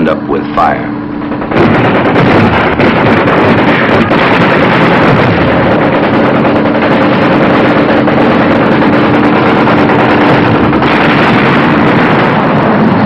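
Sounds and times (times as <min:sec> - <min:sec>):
boat engines humming: 0:00.0 - 0:13.0.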